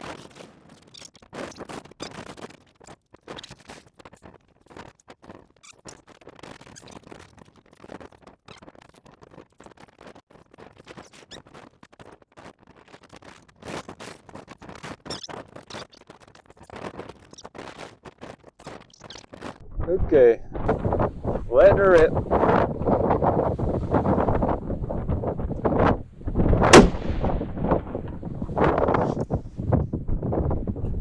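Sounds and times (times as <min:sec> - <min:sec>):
close-up scratching and rustling: 0:00.0 - 0:19.6, 0:20.6 - 0:26.7, 0:27.4 - 0:30.0.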